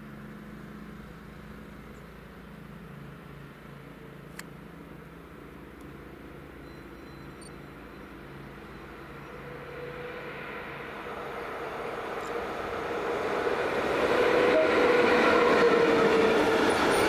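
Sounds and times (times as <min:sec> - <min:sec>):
train approaching rumble: 0:00.0 - 0:17.0.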